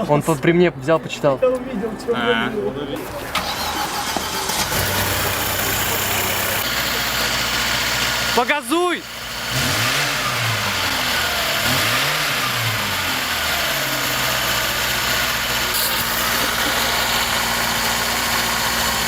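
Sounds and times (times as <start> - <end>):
car engine revving and idling: 3.3 - 19.0.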